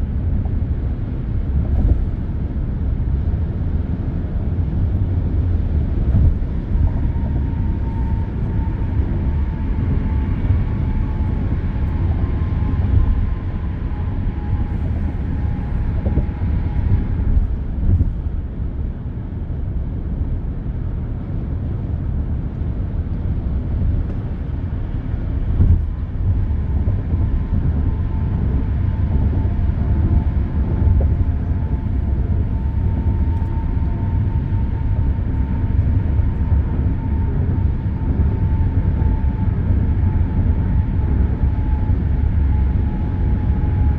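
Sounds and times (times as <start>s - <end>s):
expressway traffic rumble: 0.0s - 43.9s.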